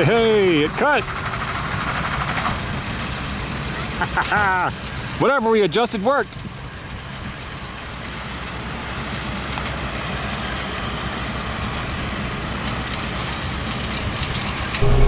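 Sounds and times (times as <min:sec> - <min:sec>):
tractor and baler running: 0:00.0 - 0:15.0.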